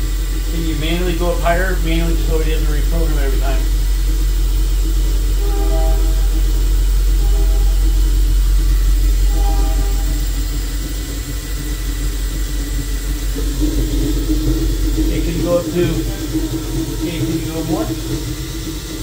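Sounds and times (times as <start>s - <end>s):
machine spindle humming: 0.0s - 19.0s.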